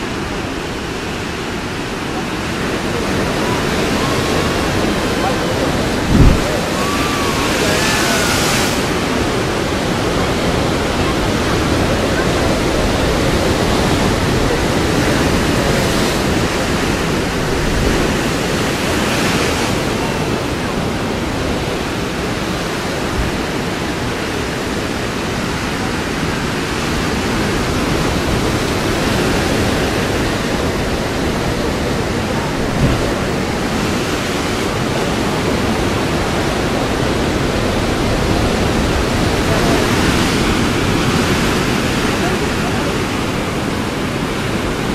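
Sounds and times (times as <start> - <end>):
loud wave crashes: 0.0 - 20.5, 27.9 - 44.9
ocean surf breaking on rocks: 0.0 - 44.9.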